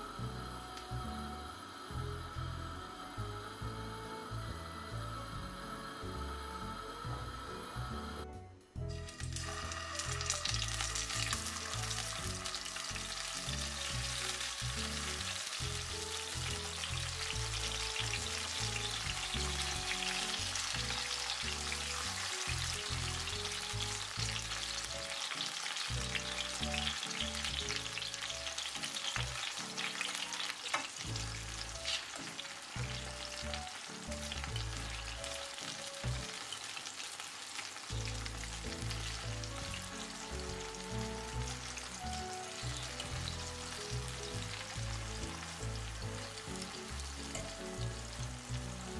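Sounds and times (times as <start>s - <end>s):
background music: 0.0s - 48.9s
tomato slices sizzling in oil: 8.8s - 48.9s.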